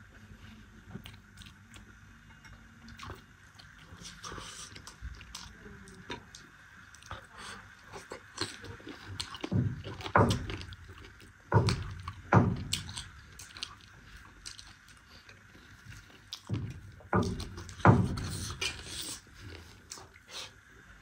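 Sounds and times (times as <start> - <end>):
person chewing food: 0.7 - 20.6.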